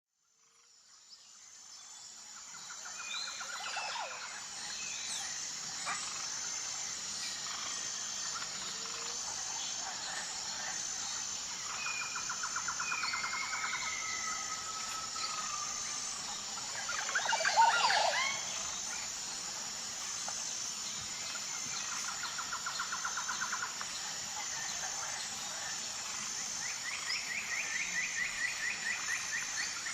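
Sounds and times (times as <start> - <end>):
birds calling and trilling: 2.6 - 29.9
high-pitched pulsing drone: 2.8 - 29.9.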